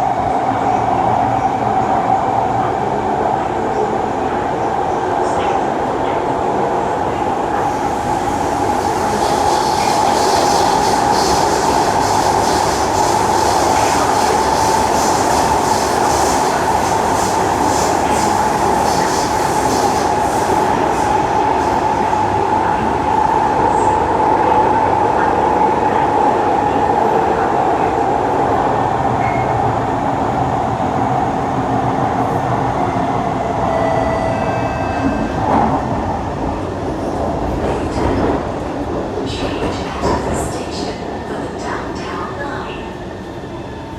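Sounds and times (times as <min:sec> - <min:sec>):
train wheels rumbling on rail: 0:01.0 - 0:43.9.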